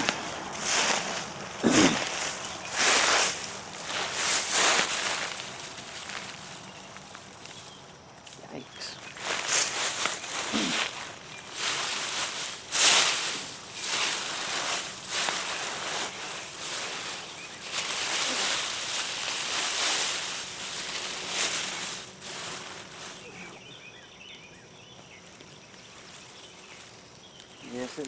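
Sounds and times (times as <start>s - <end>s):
digging in loose soil: 0.0s - 23.7s.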